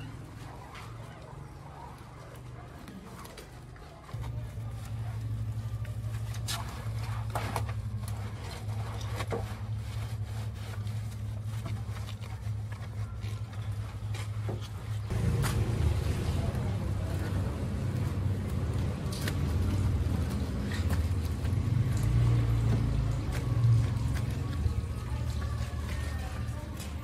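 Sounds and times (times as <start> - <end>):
low motor hum: 4.0 - 27.0.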